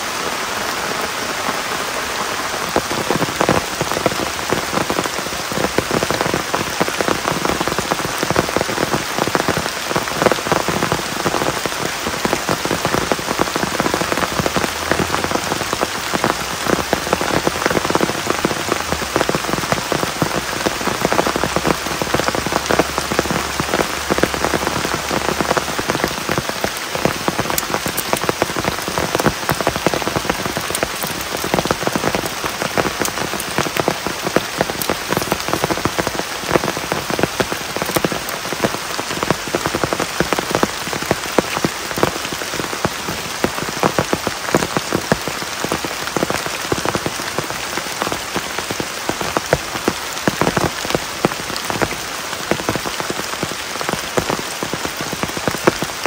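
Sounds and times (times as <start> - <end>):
steady rain with drop hits: 0.0 - 56.0.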